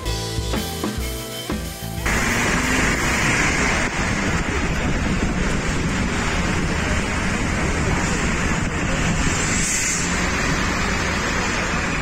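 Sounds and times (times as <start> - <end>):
wind buffeting microphone: 2.2 - 12.0.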